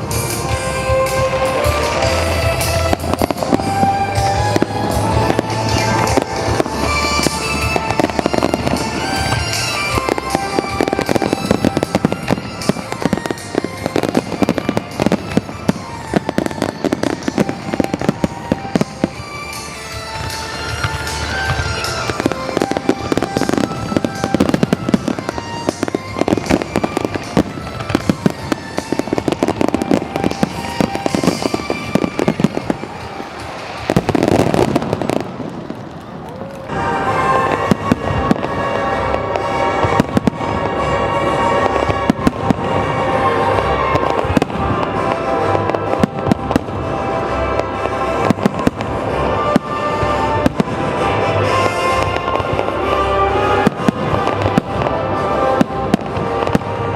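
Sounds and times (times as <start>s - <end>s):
fireworks bursting and crackling: 0.0s - 56.9s
music playing: 0.0s - 56.9s.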